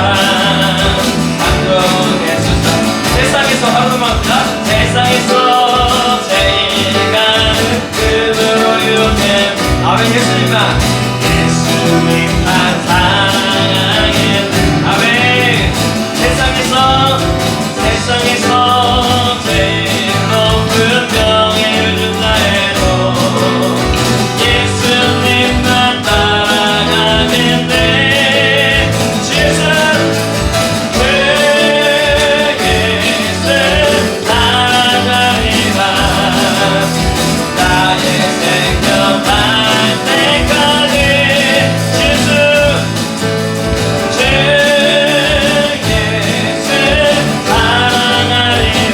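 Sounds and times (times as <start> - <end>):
voices singing: 0.0 - 48.9
worship band playing: 0.0 - 48.9.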